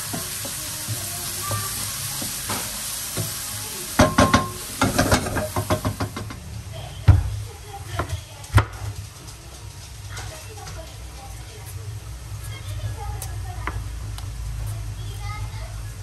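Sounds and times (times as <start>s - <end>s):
onions frying in oil: 0.0s - 16.0s.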